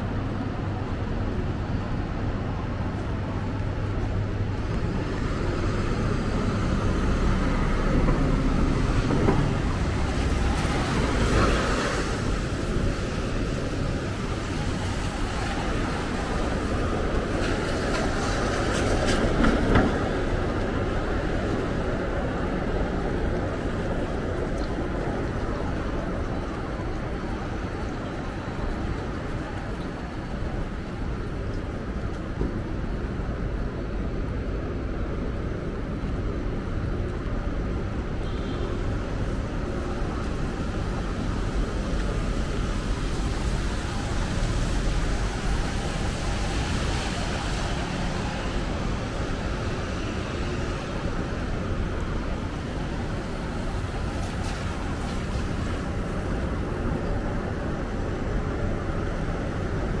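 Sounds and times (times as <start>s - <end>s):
traffic on wet street: 0.0s - 60.0s.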